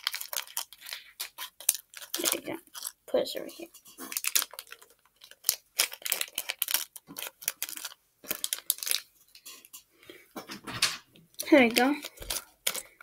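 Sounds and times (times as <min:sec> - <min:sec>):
plastic bag crinkling: 0:00.0 - 0:09.6, 0:11.3 - 0:13.0.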